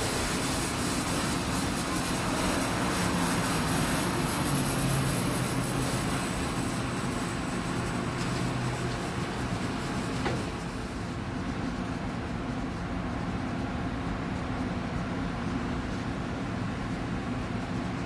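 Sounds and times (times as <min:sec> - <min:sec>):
diesel locomotive idling: 0:00.0 - 0:18.0.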